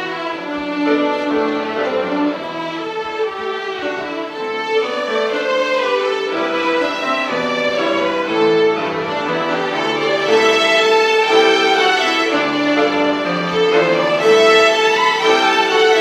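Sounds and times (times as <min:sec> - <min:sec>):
piano accompaniment: 0:00.0 - 0:16.0
violin ensemble playing: 0:00.0 - 0:16.0.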